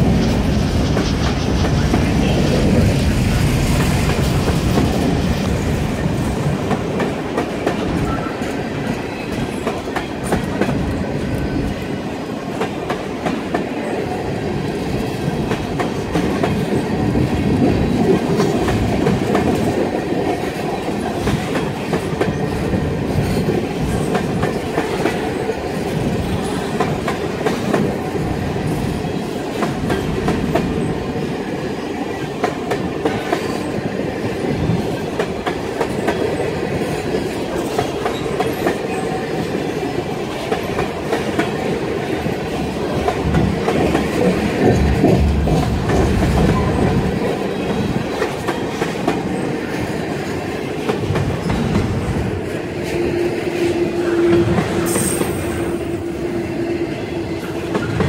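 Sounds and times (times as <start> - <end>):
clickety-clack of rail joints: 0.0 - 58.0
steel wheels rumbling on rail: 0.0 - 58.0.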